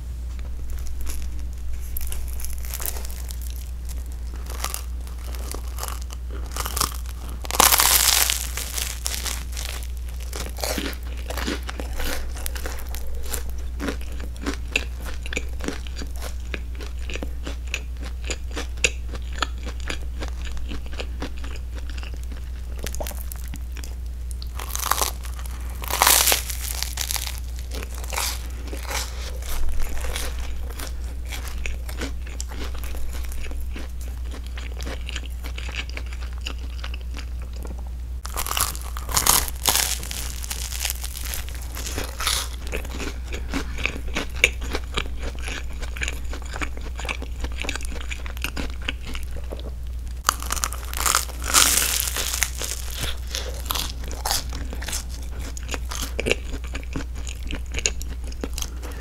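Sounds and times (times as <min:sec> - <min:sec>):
toasted sandwich crust crunching: 0:00.4 - 0:17.2, 0:22.0 - 0:36.9, 0:38.2 - 0:49.6, 0:50.2 - 0:56.6.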